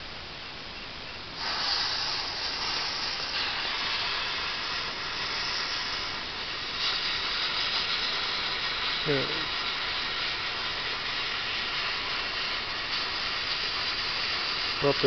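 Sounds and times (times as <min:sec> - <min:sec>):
fuse burning with hiss: 0:00.0 - 0:15.0.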